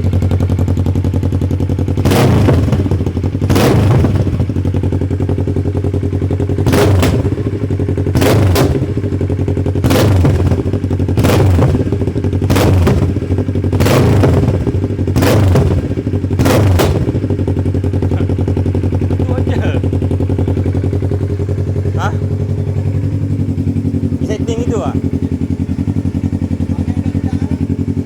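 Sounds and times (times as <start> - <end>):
exhaust popping and crackling: 0.0 - 28.0
motorcycle engine revving: 0.0 - 28.0.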